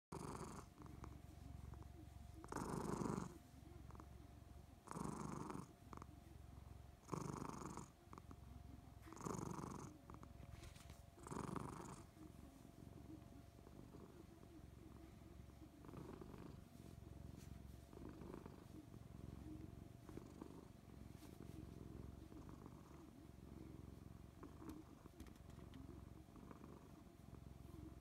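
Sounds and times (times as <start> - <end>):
cat purring: 0.1 - 28.0.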